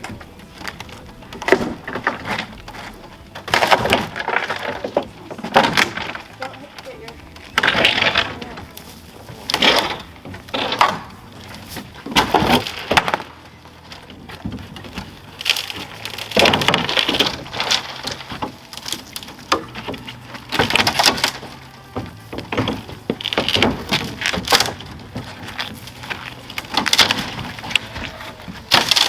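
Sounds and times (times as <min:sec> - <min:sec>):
wood cracking and splintering: 0:00.0 - 0:29.0.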